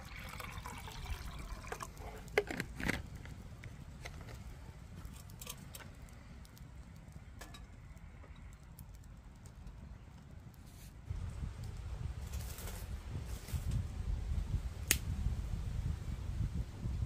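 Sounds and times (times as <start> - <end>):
wood fire crackling: 0.0 - 15.2.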